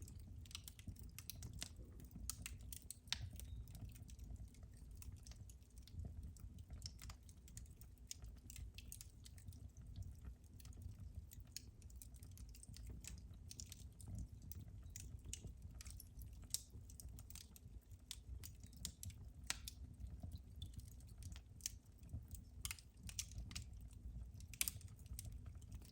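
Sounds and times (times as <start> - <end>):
wood fire crackling and popping: 0.0 - 25.9.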